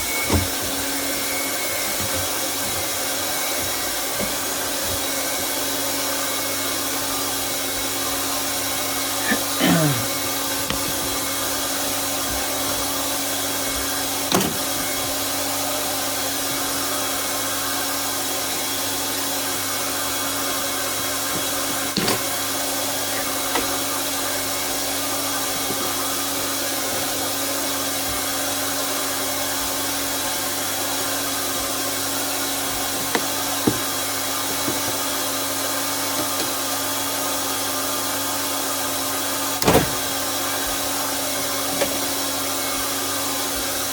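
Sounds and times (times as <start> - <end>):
hot-air welding gun blowing: 0.0 - 43.9.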